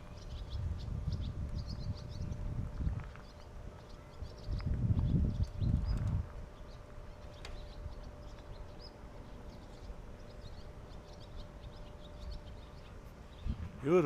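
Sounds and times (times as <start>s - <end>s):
faint steady hum: 0.0s - 14.0s
small birds chirping: 0.0s - 14.0s.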